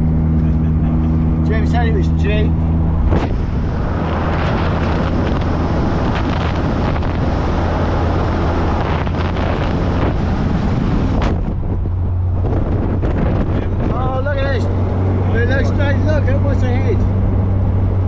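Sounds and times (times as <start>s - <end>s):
car engine drone: 0.0s - 18.0s
road noise: 0.0s - 18.0s
wind buffeting microphone: 1.1s - 18.0s.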